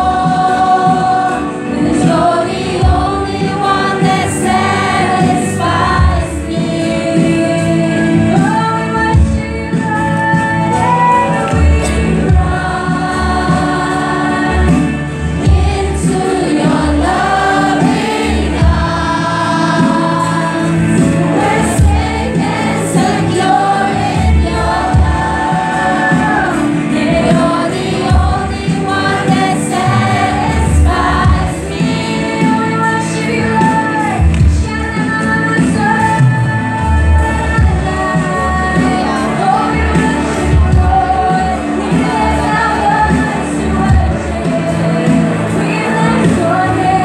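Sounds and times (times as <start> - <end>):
band accompaniment with bass beat: 0.0 - 47.0
group singing gospel song: 0.0 - 47.0.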